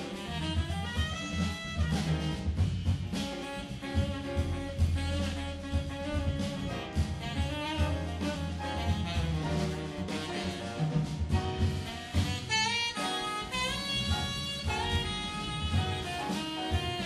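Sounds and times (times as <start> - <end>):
brass section: 0.0 - 17.0
drum kit: 0.0 - 17.0
piano: 0.0 - 17.0
saxophone: 0.0 - 17.0
walking double bass: 0.0 - 17.0.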